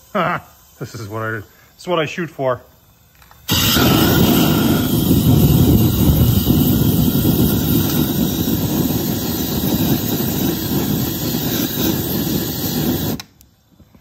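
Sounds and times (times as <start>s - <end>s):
propane torch jet rushing: 0.0s - 14.0s.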